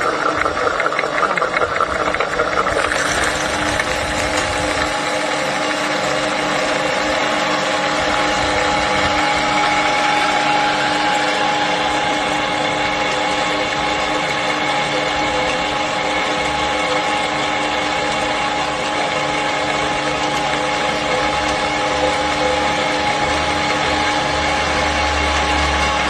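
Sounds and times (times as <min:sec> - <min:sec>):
granulator motor whining: 0:00.0 - 0:26.0.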